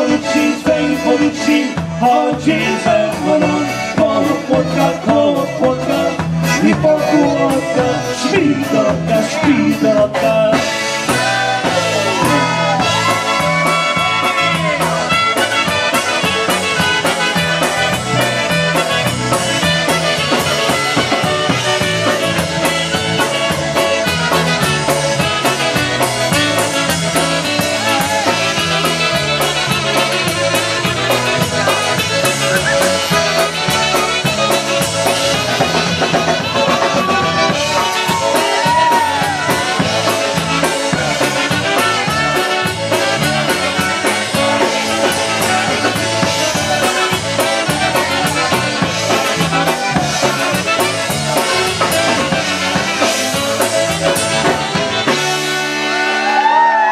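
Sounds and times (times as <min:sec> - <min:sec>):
bass guitar: 0:00.0 - 0:56.9
drum kit: 0:00.0 - 0:56.9
polka band playing: 0:00.0 - 0:56.9
saxophone: 0:00.0 - 0:56.9
trumpet: 0:00.0 - 0:56.9.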